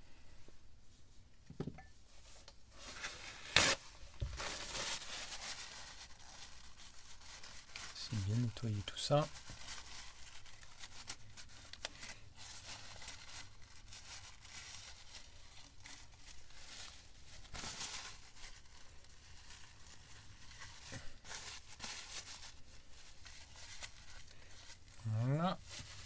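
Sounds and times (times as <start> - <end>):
paper towel rustling and crinkling: 2.1 - 26.0.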